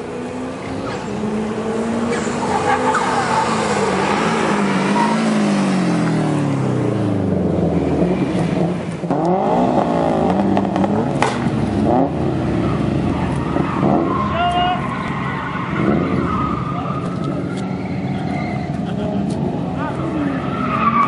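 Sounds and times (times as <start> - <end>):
car engine revving: 0.0 - 21.0
car engines running: 0.0 - 21.0.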